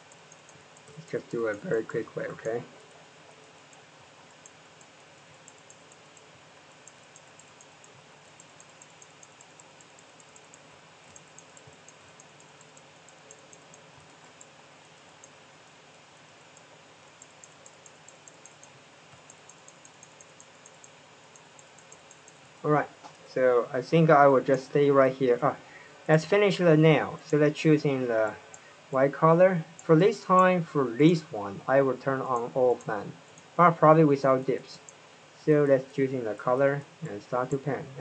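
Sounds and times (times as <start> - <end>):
computer clicking: 0.0 - 35.1, 37.0 - 37.8
low steady hiss: 0.0 - 38.0.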